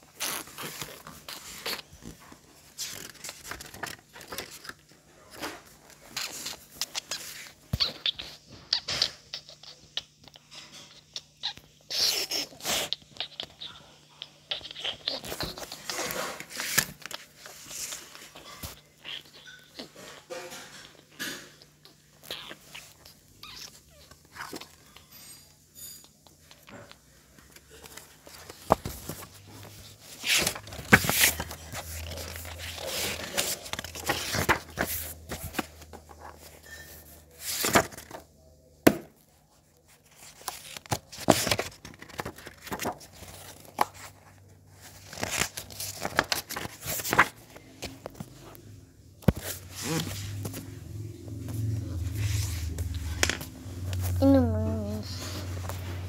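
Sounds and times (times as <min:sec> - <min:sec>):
paper rustling and crinkling: 0:00.0 - 0:10.1, 0:14.5 - 0:38.4, 0:39.2 - 0:56.0.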